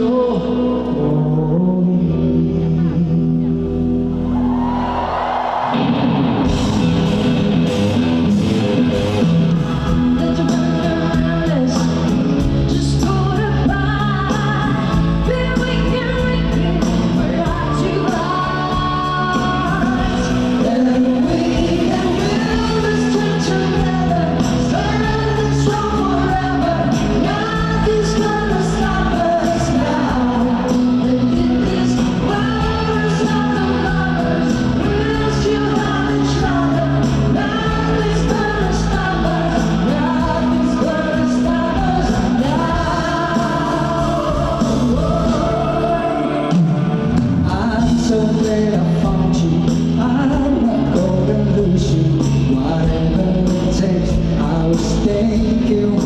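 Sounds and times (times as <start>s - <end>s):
sung vocals holding long notes: 0.0s - 5.8s, 8.2s - 56.0s
live pop-rock band: 0.0s - 56.0s.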